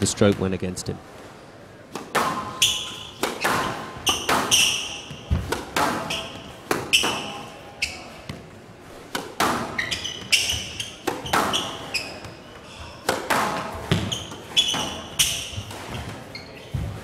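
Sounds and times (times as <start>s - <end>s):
squash ball hitting rackets and walls: 1.9s - 17.0s
shoes squeaking on court floor: 2.0s - 17.0s.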